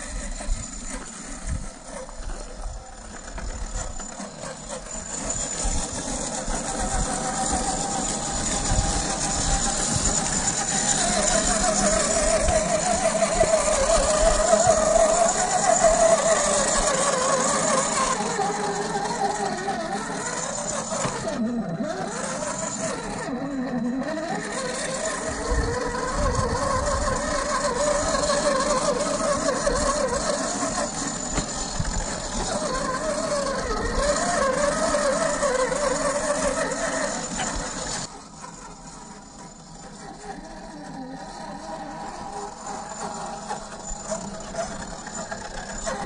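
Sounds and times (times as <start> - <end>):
electric motor whining: 0.0 - 46.0.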